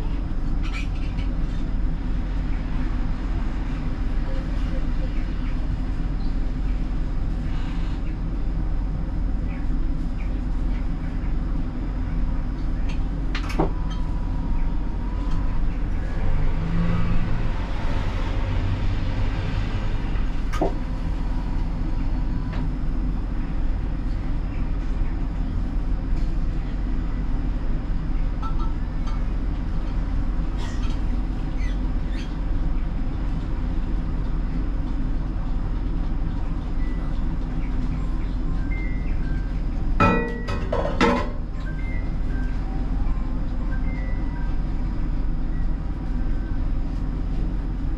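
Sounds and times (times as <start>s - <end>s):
tram motors and wheels rumbling: 0.0s - 47.9s.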